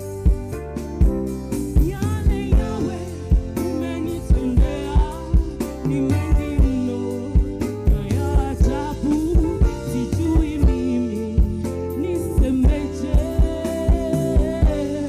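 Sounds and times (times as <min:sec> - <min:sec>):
drum kit beat: 0:00.0 - 0:15.0
live band: 0:00.0 - 0:15.0
gospel choir singing: 0:01.9 - 0:15.0.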